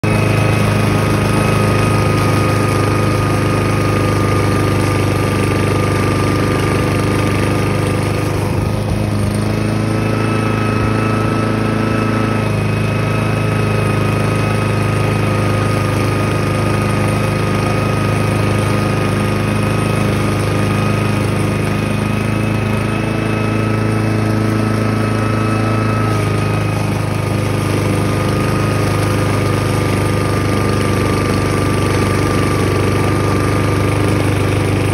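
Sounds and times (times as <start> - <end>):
lawn mower engine running: 0.0 - 34.9.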